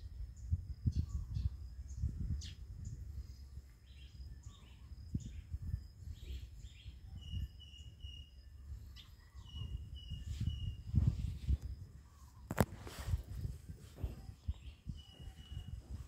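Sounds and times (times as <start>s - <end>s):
birds chirping: 0.0s - 16.0s
cicadas buzzing: 0.0s - 16.0s
wind rumbling on microphone: 0.0s - 16.0s.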